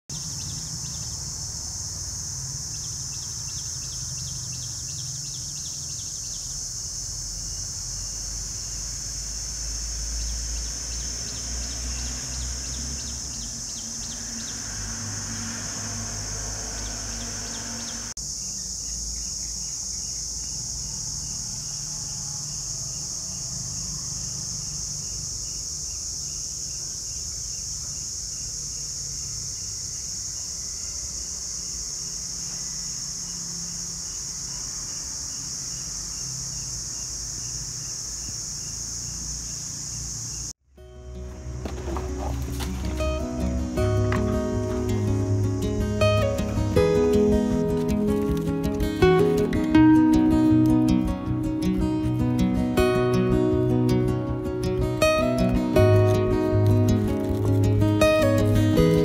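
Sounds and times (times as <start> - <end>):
fast repeated insect chirps: 0.1 - 59.0
insect chorus droning: 0.1 - 59.0.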